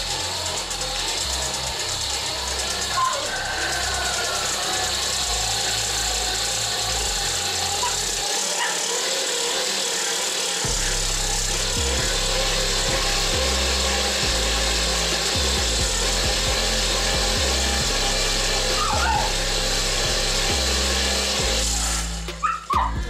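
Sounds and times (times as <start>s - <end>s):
hand-crank blower fan whirring: 0.0s - 23.0s
low hum of crank: 0.0s - 23.0s.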